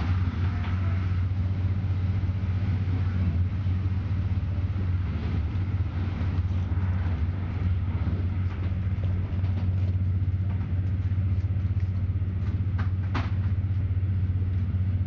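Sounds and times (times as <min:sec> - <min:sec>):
train car low rumble: 0:00.0 - 0:15.0.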